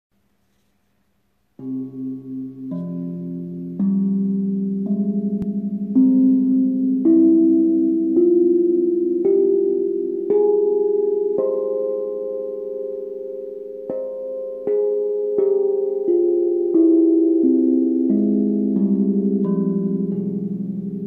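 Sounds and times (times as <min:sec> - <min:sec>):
steel tongue drum notes: 0:01.6 - 0:21.0.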